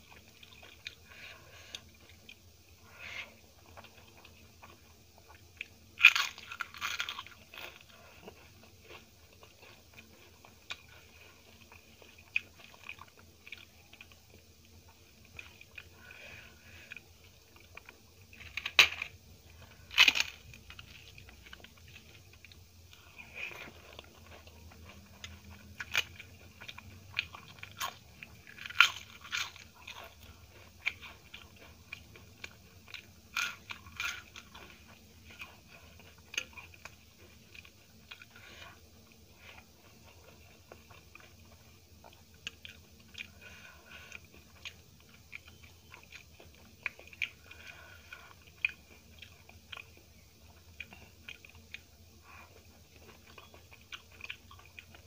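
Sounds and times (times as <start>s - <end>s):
quiet chewing: 0.0s - 55.0s.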